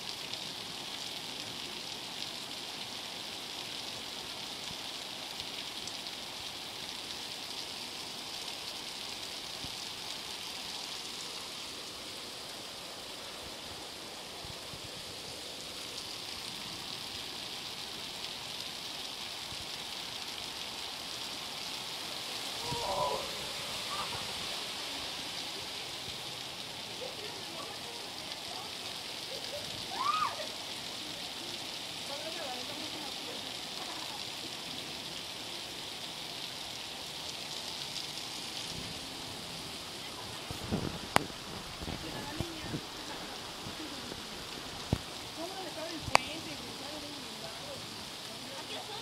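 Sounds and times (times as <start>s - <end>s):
floodwater rushing: 0.0s - 49.0s
heavy rain pouring: 0.0s - 49.0s.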